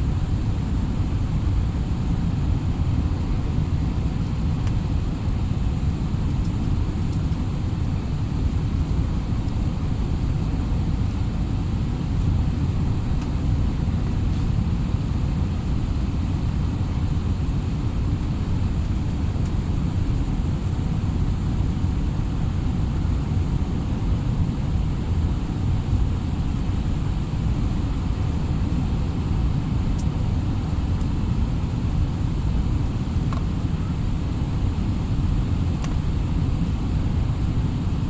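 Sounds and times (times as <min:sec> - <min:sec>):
aeroplane engines rumbling: 0:00.0 - 0:38.0.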